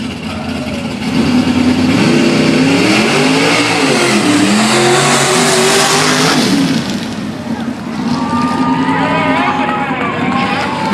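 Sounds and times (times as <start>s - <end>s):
truck engine revving: 0.0s - 10.9s.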